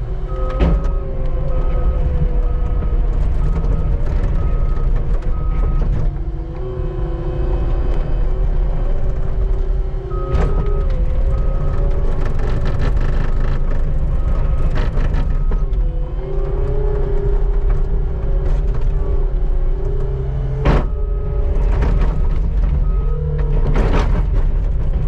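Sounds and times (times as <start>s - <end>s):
skid steer engine whining: 0.0s - 25.0s.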